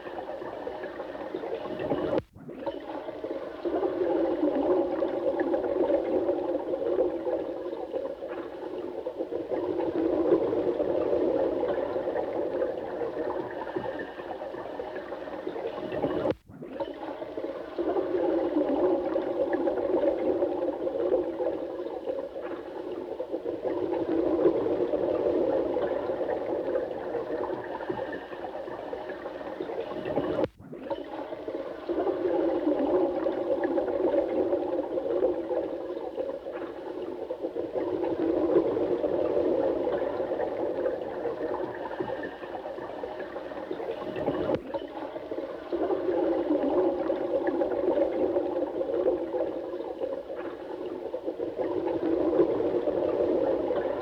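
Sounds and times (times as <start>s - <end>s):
running water gurgling: 0.0s - 54.0s.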